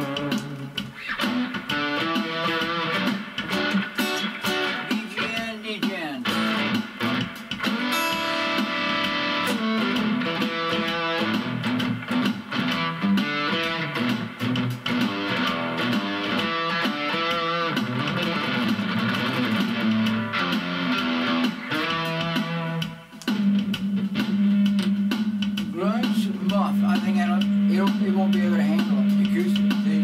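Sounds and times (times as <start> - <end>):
acoustic guitar through amp: 0.0 - 30.0.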